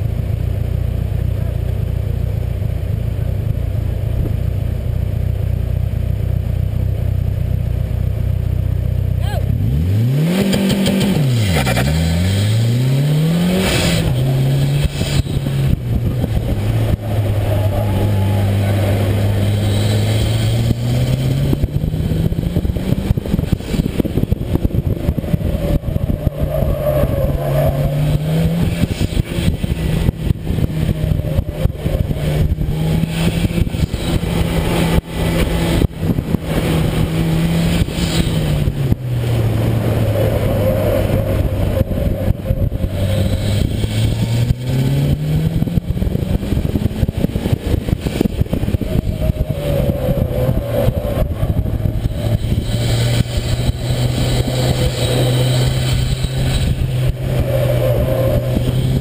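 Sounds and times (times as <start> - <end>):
car engine revving: 0.0 - 59.0
constant rushing noise: 0.0 - 59.0.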